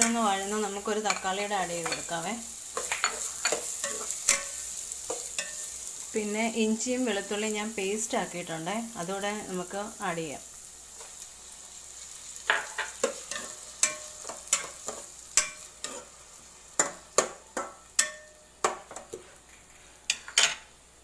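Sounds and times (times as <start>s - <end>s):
faint frying sizzle: 0.0s - 21.0s.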